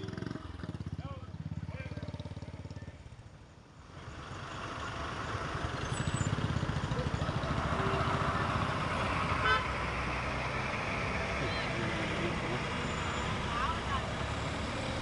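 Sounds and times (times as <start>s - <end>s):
traffic: 0.0s - 15.0s
vehicle engine running: 0.0s - 15.0s.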